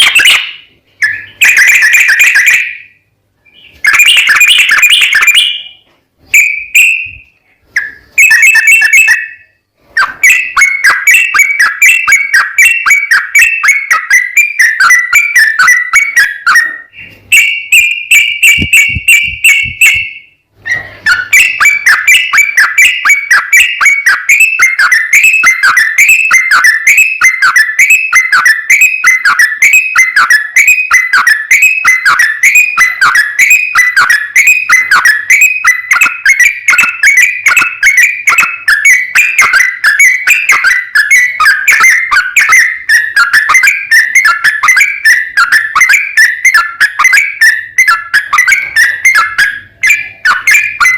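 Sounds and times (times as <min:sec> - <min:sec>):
bulbul singing chattering notes: 0:00.0 - 0:50.9.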